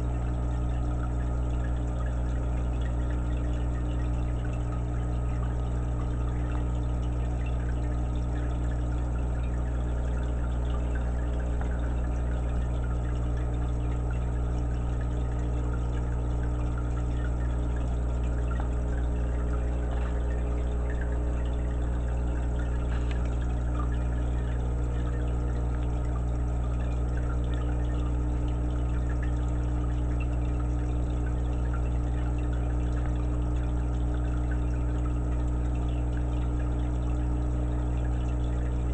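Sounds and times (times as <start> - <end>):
aquarium air bubbles fizzing: 0.0 - 38.9
low mechanical hum: 0.0 - 38.9.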